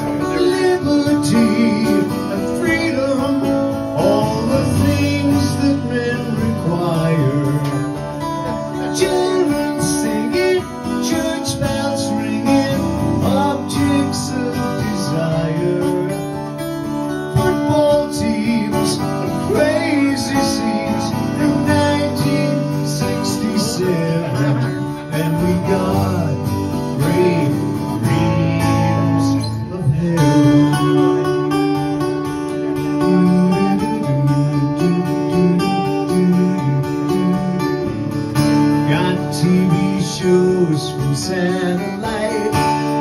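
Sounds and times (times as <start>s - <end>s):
guitar strumming: 0.0s - 43.0s.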